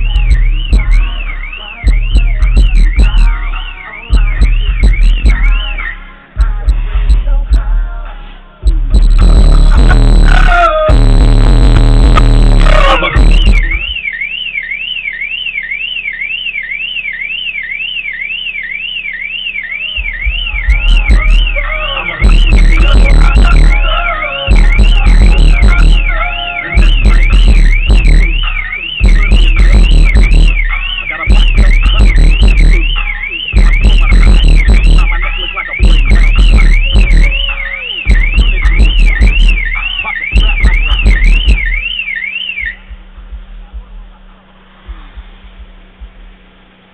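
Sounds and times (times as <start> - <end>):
car alarm siren wailing: 0.0 - 6.4, 8.6 - 43.0
deep bass thumps from subwoofer: 0.0 - 14.1, 20.0 - 46.9.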